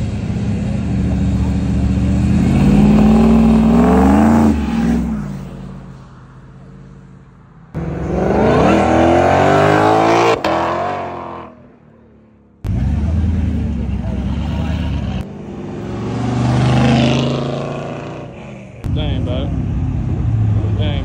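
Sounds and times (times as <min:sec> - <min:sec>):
car engine accelerating: 0:00.0 - 0:05.8, 0:07.7 - 0:21.0.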